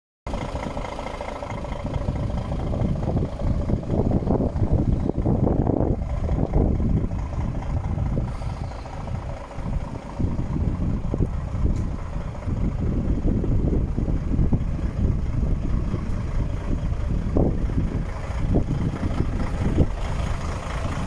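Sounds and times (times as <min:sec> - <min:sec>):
truck diesel engine idling: 0:00.3 - 0:21.0.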